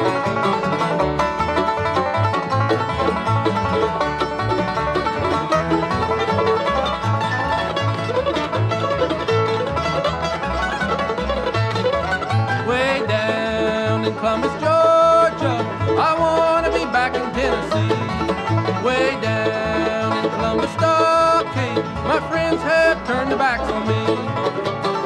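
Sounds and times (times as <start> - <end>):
banjo and guitar picking: 0.0 - 25.0
bass notes: 0.0 - 25.0.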